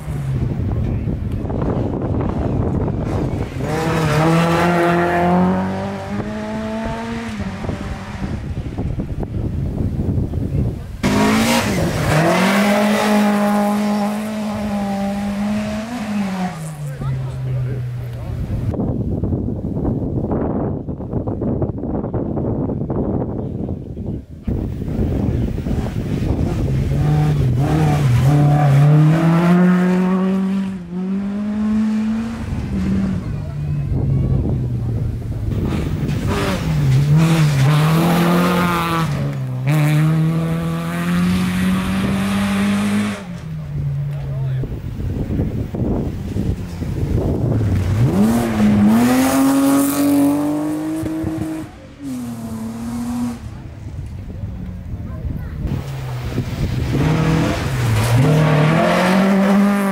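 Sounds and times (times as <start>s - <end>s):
rally car engine accelerating: 0.0s - 21.7s, 24.4s - 59.9s.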